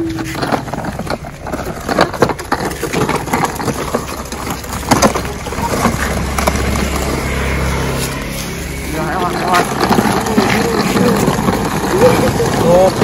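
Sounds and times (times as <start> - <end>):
low steady hum: 0.0 - 13.0
plastic wheels grinding on concrete: 0.0 - 13.0.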